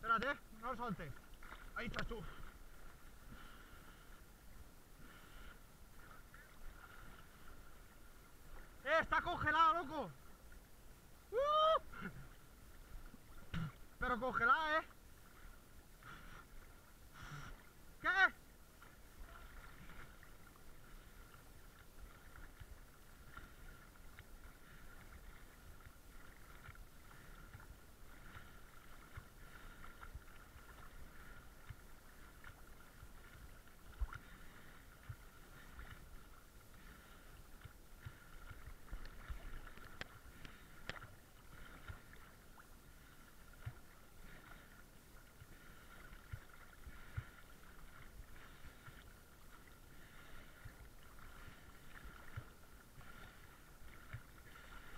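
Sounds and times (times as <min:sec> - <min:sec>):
water sloshing: 0:00.0 - 0:11.0, 0:11.8 - 0:54.9.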